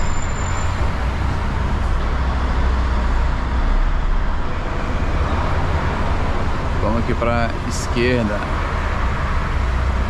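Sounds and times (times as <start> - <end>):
road noise: 0.0 - 10.0
truck engine rumbling: 0.0 - 10.0.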